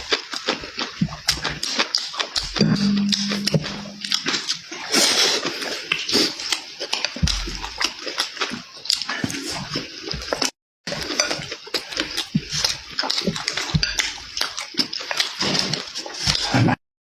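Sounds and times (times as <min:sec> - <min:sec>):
wet chewing and lip-smacking: 0:00.0 - 0:02.6, 0:04.1 - 0:16.6.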